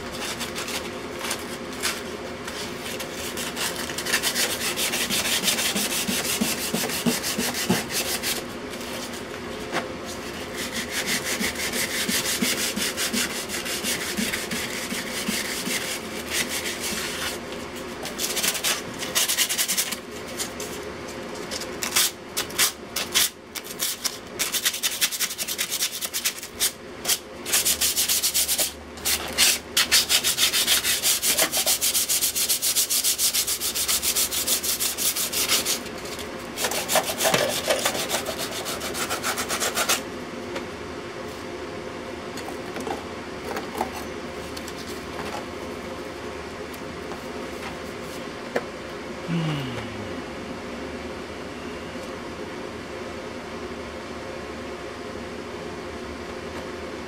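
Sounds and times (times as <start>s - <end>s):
steady low hum: 0.0s - 24.6s, 25.3s - 57.0s.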